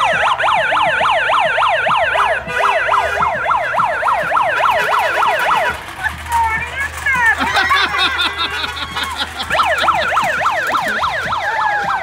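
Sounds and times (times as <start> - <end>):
siren yelping: 0.0 - 5.8, 7.1 - 12.0.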